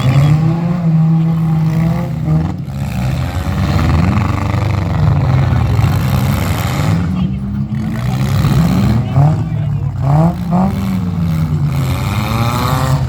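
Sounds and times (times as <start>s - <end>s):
car engine revving: 0.0s - 13.0s
car engines running loud: 0.0s - 13.0s.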